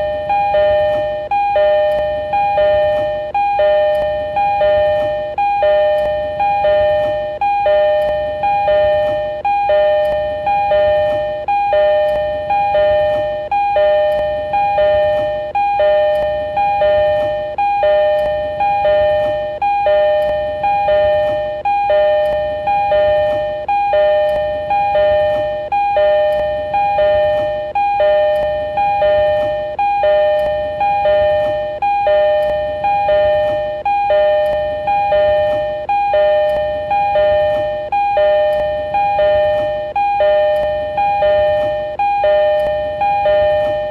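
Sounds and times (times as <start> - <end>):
two-note electronic door chime: 0.0 - 43.9.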